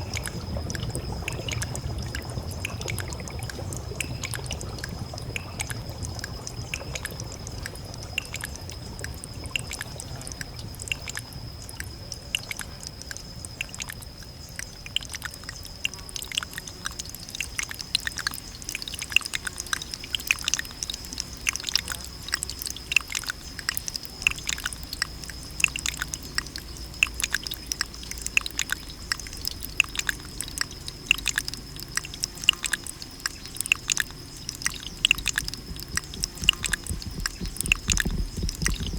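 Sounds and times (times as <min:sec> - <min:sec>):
water dripping: 0:00.0 - 0:38.9.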